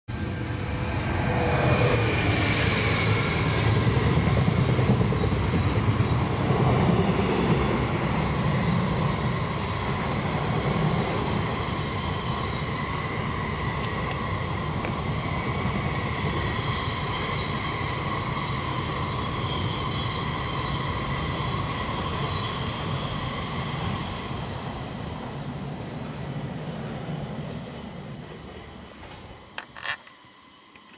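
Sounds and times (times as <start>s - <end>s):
freight train rumbling past: 0.1s - 30.9s
wheels whining on rails: 0.1s - 30.9s.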